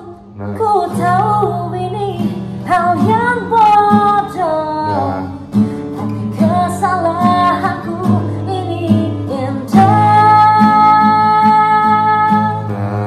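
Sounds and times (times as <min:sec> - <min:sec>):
woman singing: 0:00.0 - 0:05.4, 0:06.1 - 0:12.9
strummed acoustic guitar: 0:00.0 - 0:13.0.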